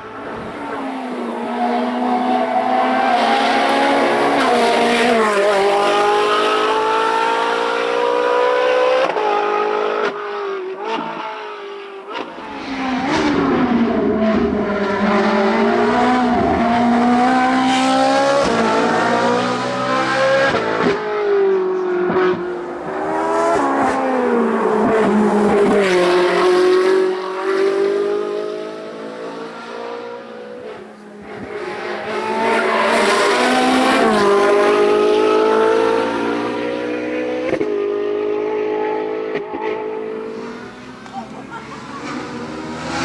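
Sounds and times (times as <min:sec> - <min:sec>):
racing car engine at full throttle: 0:00.0 - 0:43.0.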